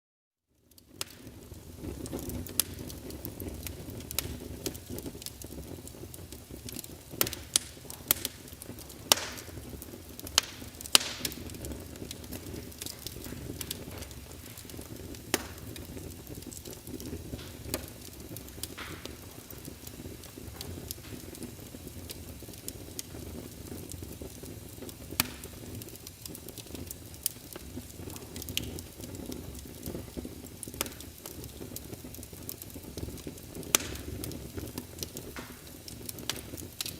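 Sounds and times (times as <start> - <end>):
wood fire crackling: 0.5 - 36.9.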